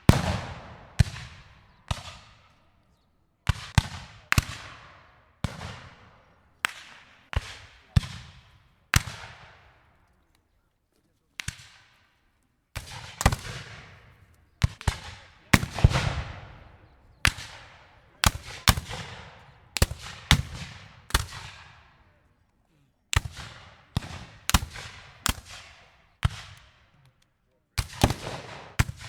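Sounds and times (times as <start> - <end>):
rifle shots with rolling echo: 0.0 - 2.8, 3.5 - 10.1, 12.8 - 22.2, 23.2 - 27.0, 27.8 - 29.0.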